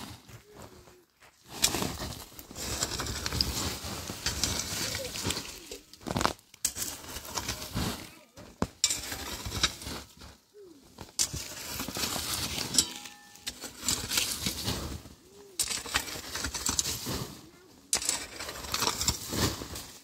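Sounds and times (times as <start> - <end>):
rake scraping gravel: 0.0 - 20.0.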